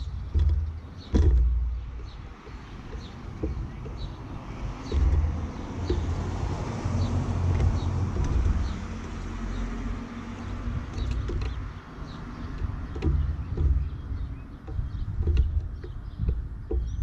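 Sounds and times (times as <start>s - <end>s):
low uneven rumble: 0.0s - 17.0s.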